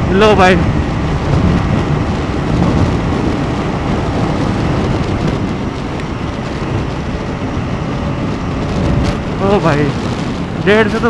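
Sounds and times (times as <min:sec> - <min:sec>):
wind buffeting helmet microphone: 0:00.0 - 0:11.0.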